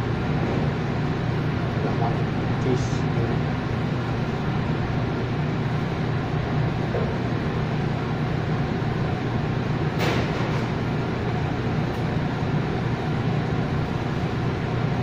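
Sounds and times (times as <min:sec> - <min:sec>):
ventilation hum and air rush: 0:00.0 - 0:15.0.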